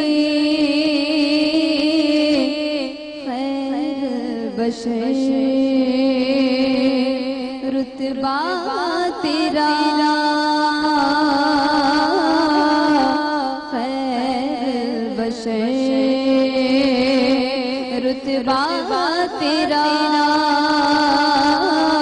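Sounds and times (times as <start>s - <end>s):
woman singing devotional melody: 0.0s - 22.0s.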